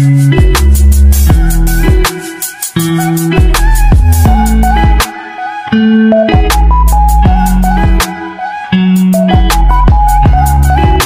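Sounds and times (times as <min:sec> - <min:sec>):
music with beat and deep bass: 0:00.0 - 0:11.0.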